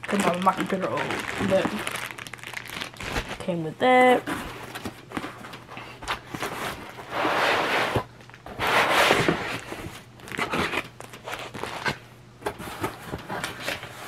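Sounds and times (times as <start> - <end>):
packaging crinkling and rustling: 0.0 - 7.1, 7.9 - 14.0.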